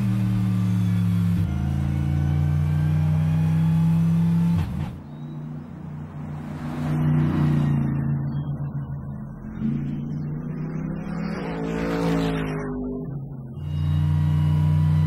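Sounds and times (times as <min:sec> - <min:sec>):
gearshift: 0:00.0 - 0:15.0
race car engine accelerating: 0:00.0 - 0:15.0.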